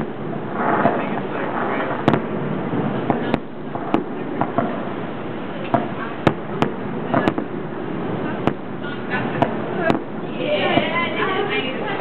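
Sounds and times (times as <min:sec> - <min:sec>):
crowd chatter: 0:00.0 - 0:12.0
fireworks bangs: 0:00.0 - 0:12.0.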